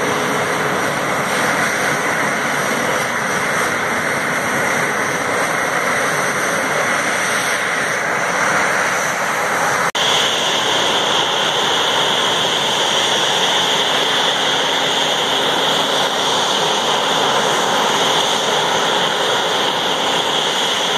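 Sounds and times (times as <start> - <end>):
jet engines idling with whine: 0.0 - 20.9.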